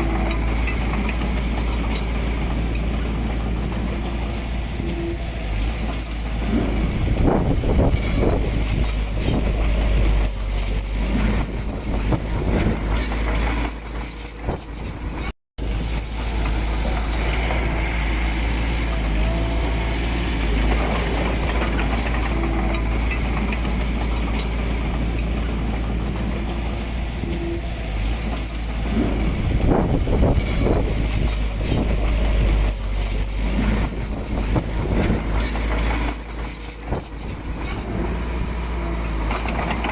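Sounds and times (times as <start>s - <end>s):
diesel machinery engine rumble: 0.0s - 39.9s
metal squeaks and clanks: 4.8s - 24.5s, 27.2s - 39.9s.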